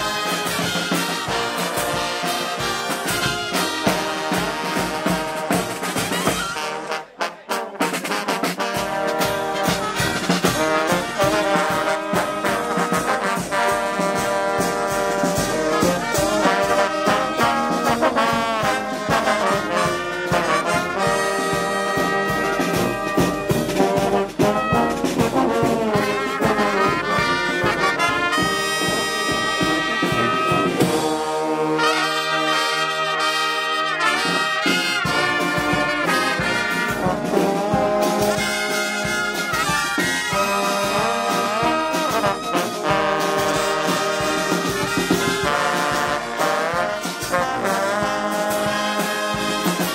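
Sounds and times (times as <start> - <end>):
cymbals: 0.0 - 49.9
snare drum: 0.0 - 49.9
trombones: 0.0 - 49.9
trumpets: 0.0 - 49.9.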